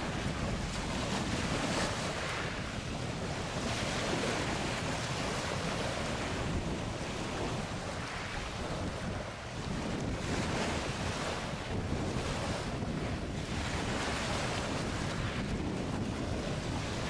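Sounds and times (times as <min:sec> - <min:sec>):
waves on the water: 0:00.0 - 0:17.0
wind buffeting the microphone: 0:00.0 - 0:17.0.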